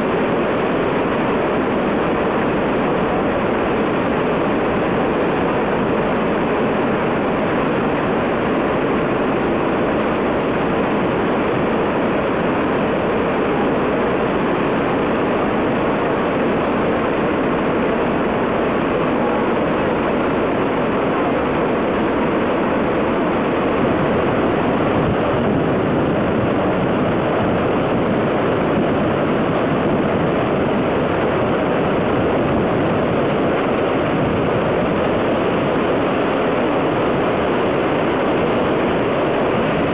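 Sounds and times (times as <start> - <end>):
roar of rushing white water: 0.0 - 39.9.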